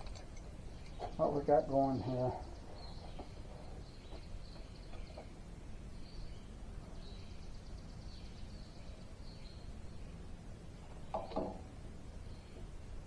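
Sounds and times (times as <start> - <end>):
birds chirping: 0.0 - 12.9
outdoor background noise: 0.0 - 13.0.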